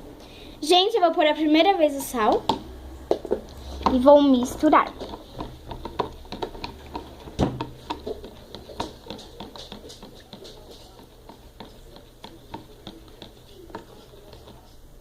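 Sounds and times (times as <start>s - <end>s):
utensil tapping container sides: 2.0s - 14.8s.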